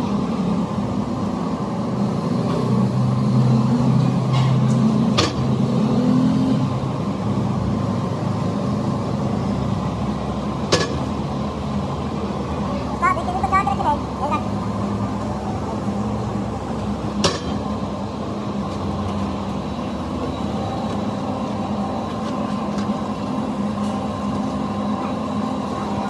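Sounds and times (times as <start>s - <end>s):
factory machinery hum: 0.0s - 26.0s.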